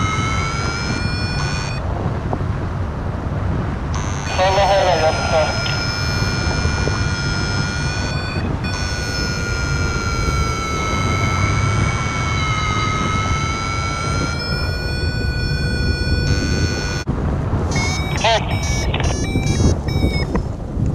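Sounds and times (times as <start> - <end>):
variometer electronic tone: 0.0 - 2.0, 3.9 - 17.1, 17.7 - 20.5
wind on microphone: 0.0 - 20.9.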